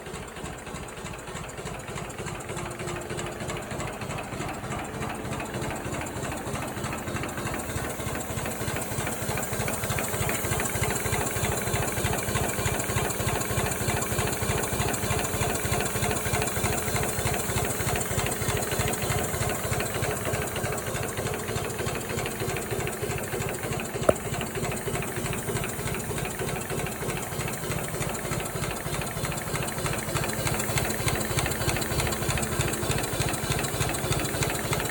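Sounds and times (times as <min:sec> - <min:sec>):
steam engine exhaust beating: 0:00.0 - 0:34.9.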